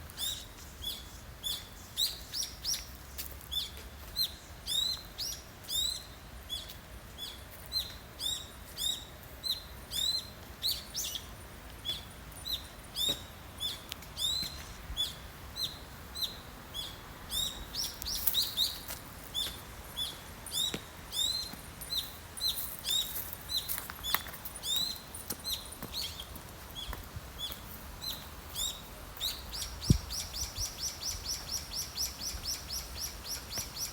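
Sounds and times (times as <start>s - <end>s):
songbird high chirp: 0.0s - 33.9s.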